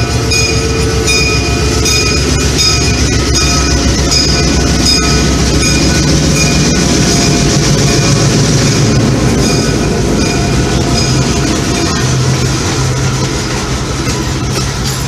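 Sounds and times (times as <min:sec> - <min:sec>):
locomotive engine rumble: 0:00.0 - 0:15.0
wheels clicking over rail joints: 0:01.9 - 0:15.0.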